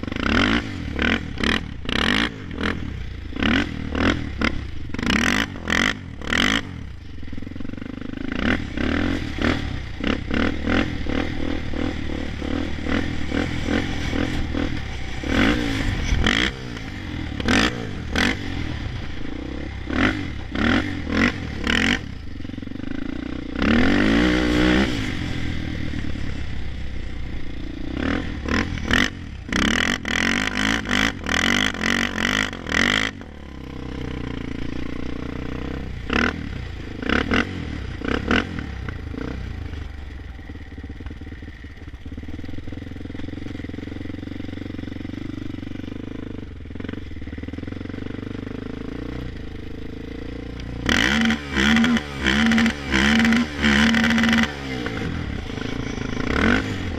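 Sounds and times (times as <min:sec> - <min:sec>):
engine running steadily: 0:00.0 - 0:56.9.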